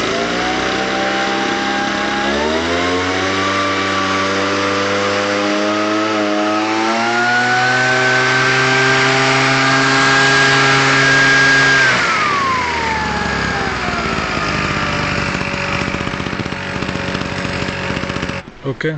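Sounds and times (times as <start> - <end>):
small engine revving: 0.0 - 18.5.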